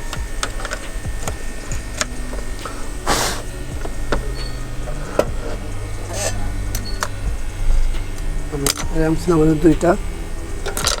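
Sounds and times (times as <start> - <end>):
short hiss: 0.0 - 8.9
low electrical hum: 0.0 - 11.0.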